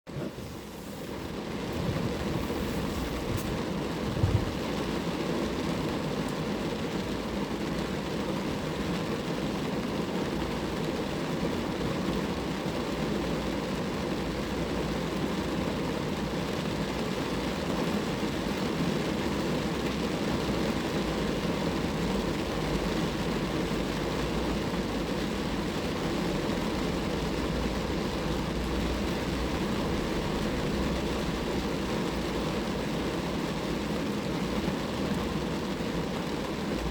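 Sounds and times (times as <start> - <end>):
rain falling on a car: 0.1 - 36.9.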